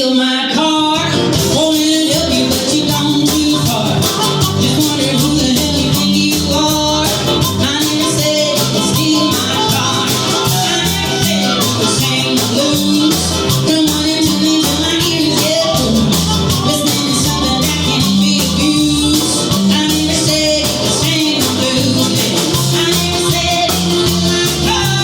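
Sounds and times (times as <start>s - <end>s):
live rock band playing: 0.2s - 25.0s.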